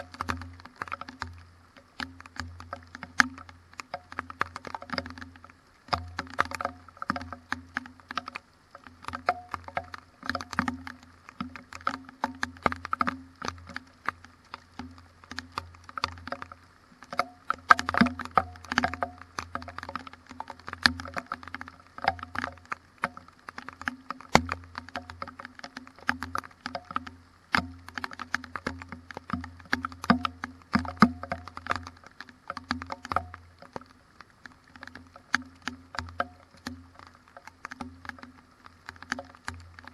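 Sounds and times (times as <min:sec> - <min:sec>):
rain patter close to microphone: 0:00.0 - 0:39.9.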